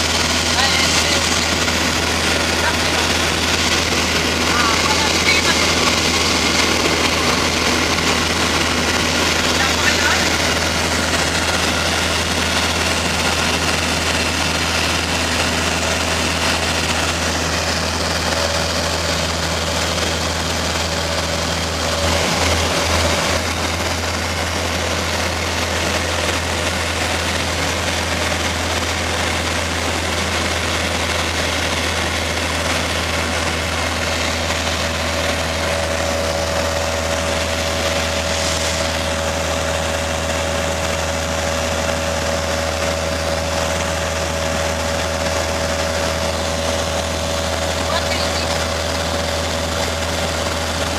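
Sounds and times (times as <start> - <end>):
aircraft engine drone in cabin: 0.0 - 50.9.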